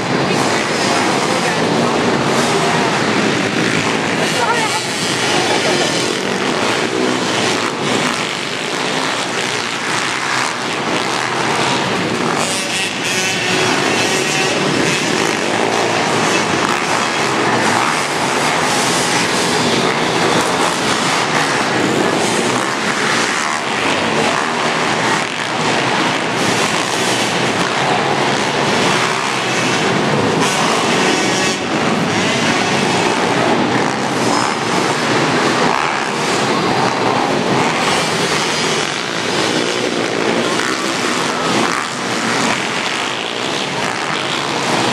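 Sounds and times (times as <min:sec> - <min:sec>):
pit bike engines racing: 0:00.0 - 0:44.9.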